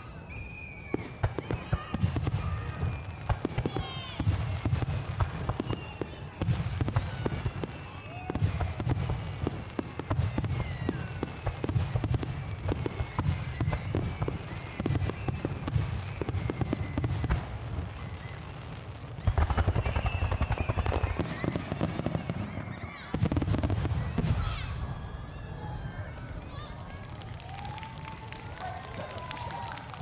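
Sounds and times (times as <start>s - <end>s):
firework crackles: 0.0s - 30.0s
firework shells booming: 0.9s - 25.1s.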